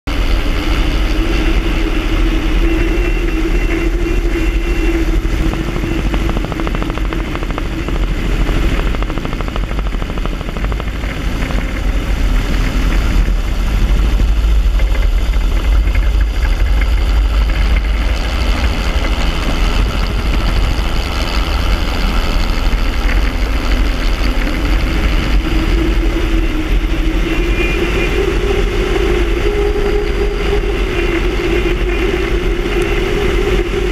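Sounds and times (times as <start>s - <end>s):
steady high whine: 0.0s - 33.9s
droning tone: 0.1s - 33.9s
heavy low rumble: 0.1s - 33.9s
helicopter turbine and rotor noise: 0.1s - 33.9s.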